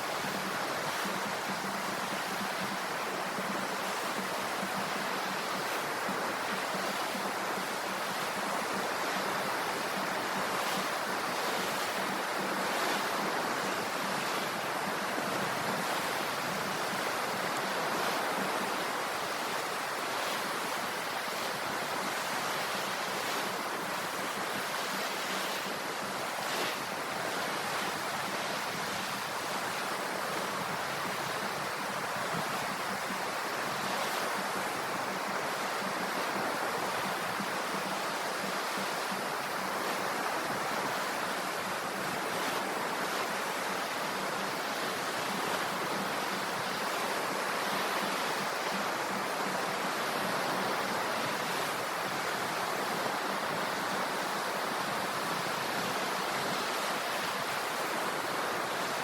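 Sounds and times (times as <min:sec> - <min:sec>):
sea waves washing on shore: 0:00.0 - 0:59.0.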